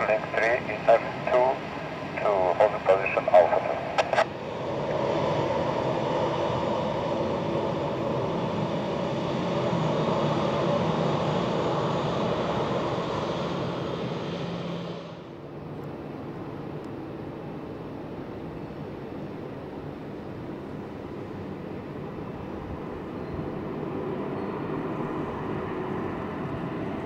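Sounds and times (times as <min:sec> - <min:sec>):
jet engines taxiing: 0:00.0 - 0:27.0.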